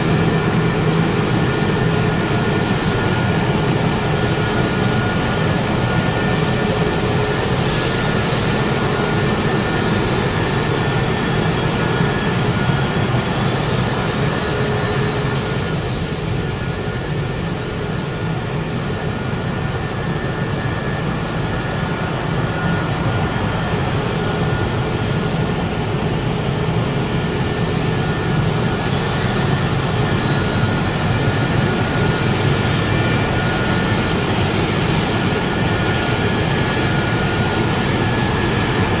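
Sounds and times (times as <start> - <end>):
machinery droning: 0.0 - 26.0, 26.9 - 39.0.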